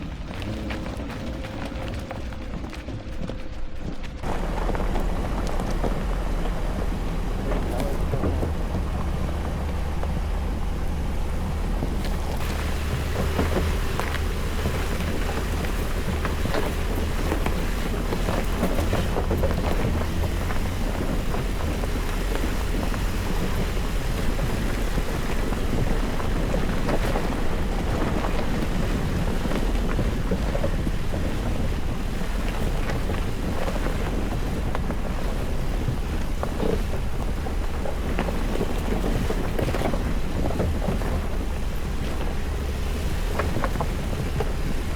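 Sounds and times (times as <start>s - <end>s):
rumble of engine and tyres: 0.0s - 44.9s
wind noise on microphone: 0.0s - 44.9s
small knocks and rattles: 0.2s - 44.9s.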